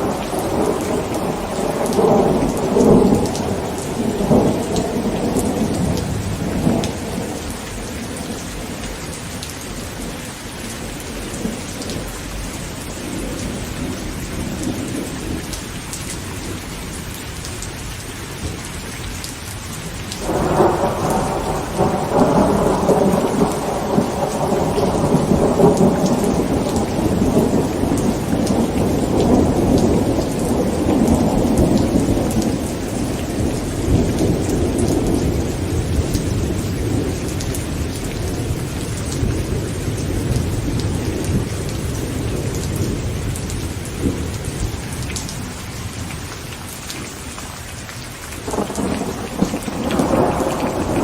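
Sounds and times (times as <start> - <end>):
thunder rumbling: 0.0 - 17.6, 20.2 - 46.3, 48.3 - 51.0
heavy rain on a tent: 0.0 - 51.0.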